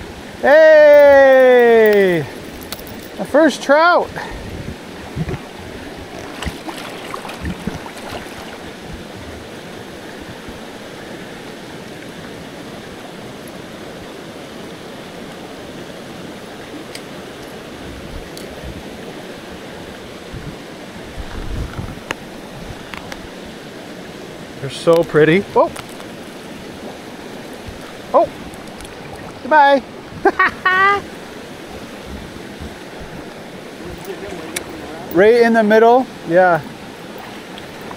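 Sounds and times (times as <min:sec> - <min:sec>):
creek rushing over rocks: 0:00.0 - 0:37.9.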